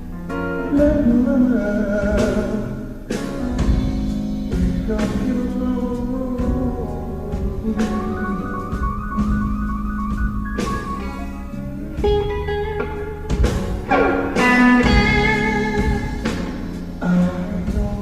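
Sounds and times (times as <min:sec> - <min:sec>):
electric blues guitar: 0:00.0 - 0:18.0
low backing music: 0:00.0 - 0:18.0.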